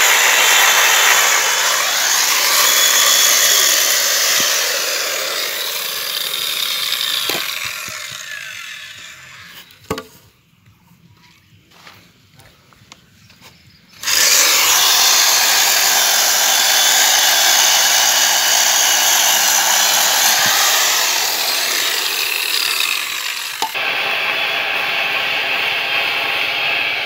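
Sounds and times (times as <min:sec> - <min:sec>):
electric chainsaw cutting log: 0:00.0 - 0:09.9, 0:14.0 - 0:27.0.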